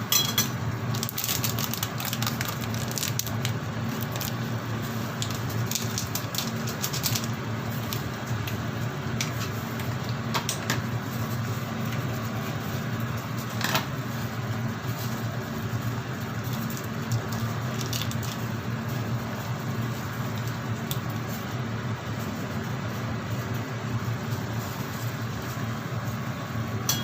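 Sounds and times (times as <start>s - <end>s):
pot boiling and bubbling: 0.0s - 27.0s.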